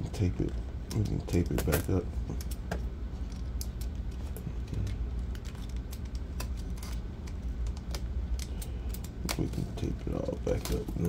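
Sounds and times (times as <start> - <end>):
steady low hum: 0.0 - 11.0
hands crinkling tape: 0.2 - 11.0.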